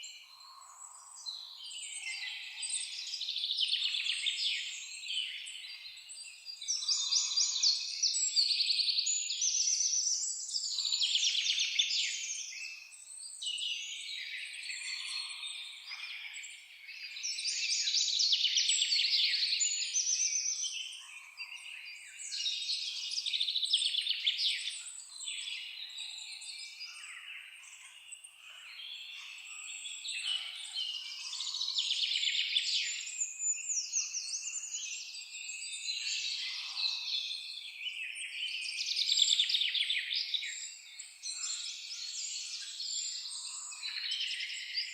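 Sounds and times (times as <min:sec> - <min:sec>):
songbirds chorus trilling: 0:00.0 - 0:44.9.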